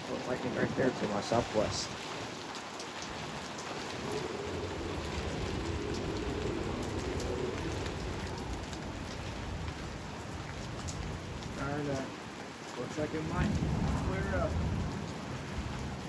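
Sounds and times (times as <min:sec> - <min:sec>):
distant thunder rumble: 0:00.0 - 0:02.4, 0:03.0 - 0:12.2, 0:12.9 - 0:16.0
steady rain falling: 0:00.0 - 0:16.0.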